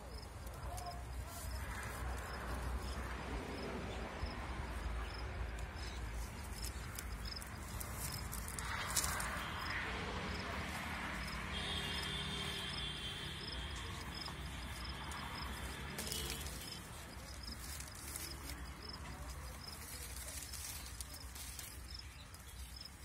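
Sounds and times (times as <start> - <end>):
rustle of plastic string and leaves: 0.0 - 23.0.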